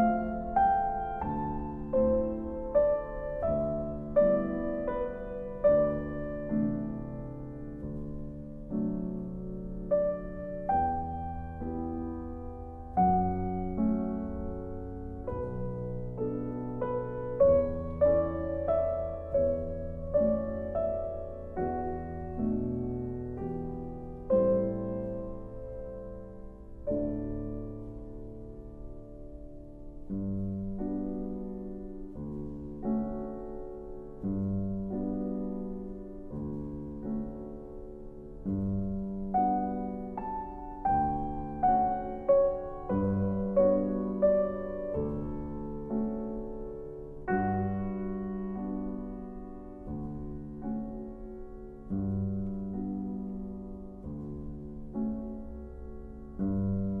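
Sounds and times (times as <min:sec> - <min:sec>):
slow piano music: 0:00.0 - 0:57.0.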